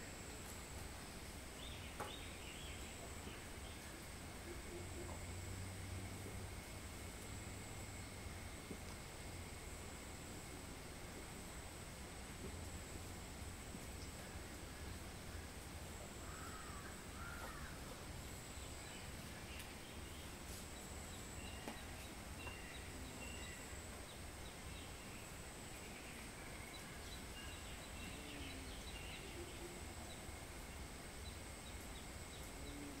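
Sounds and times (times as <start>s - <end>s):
background hiss: 0.0s - 33.0s
low hum: 0.0s - 33.0s.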